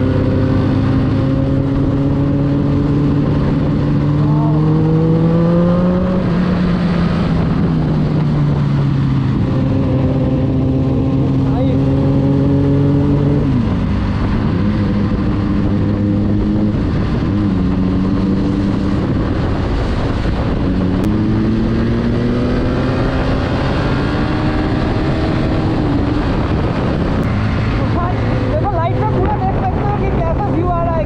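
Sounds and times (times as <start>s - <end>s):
motorcycle engine running: 0.0s - 31.0s
wind noise: 0.0s - 31.0s.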